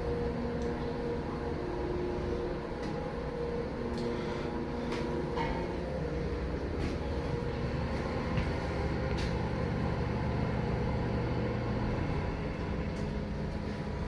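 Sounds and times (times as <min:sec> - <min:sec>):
elevator humming in motion: 0:00.0 - 0:14.0.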